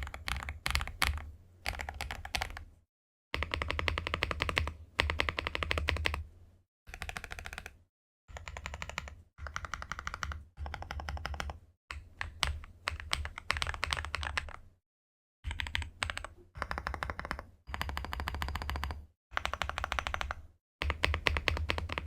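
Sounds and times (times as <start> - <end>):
mechanical keyboard typing: 0.0 - 2.6, 3.4 - 6.2, 6.9 - 14.6, 15.4 - 22.0.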